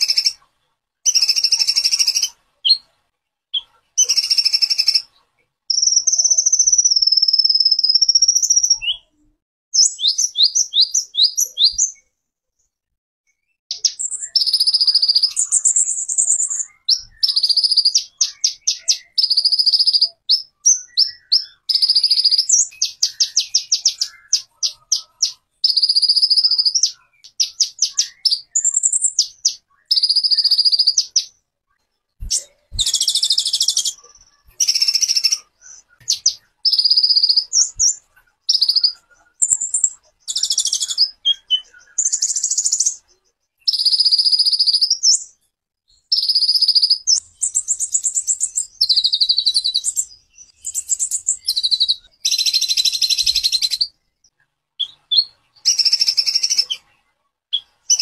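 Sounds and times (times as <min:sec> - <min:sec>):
songbird trilling: 0:00.0 - 0:00.4, 0:01.1 - 0:02.9, 0:03.6 - 0:05.1, 0:05.7 - 0:09.1, 0:09.8 - 0:12.0, 0:13.7 - 0:31.3, 0:32.2 - 0:43.1, 0:43.7 - 0:45.3, 0:46.1 - 0:54.0, 0:54.8 - 0:56.8.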